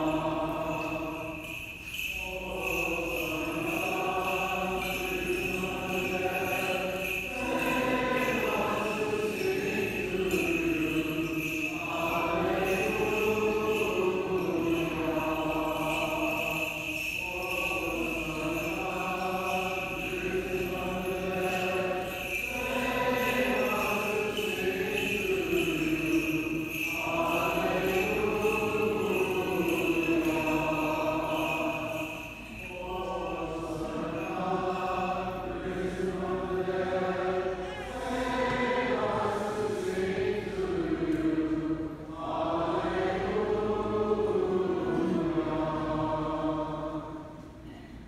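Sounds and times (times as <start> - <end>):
voices singing liturgical chant: 0.0 - 48.0.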